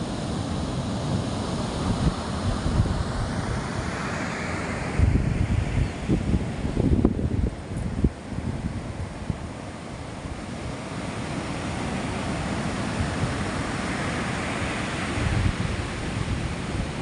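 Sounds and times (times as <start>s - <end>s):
wind buffeting microphone: 0.0s - 4.0s, 4.8s - 17.0s
sea surf washing: 0.0s - 17.0s.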